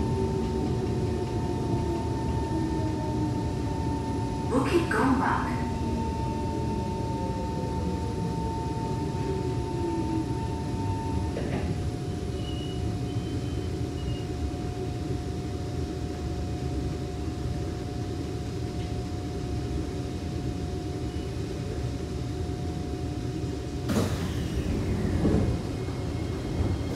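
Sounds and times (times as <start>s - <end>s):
train rumbling: 0.0s - 26.9s.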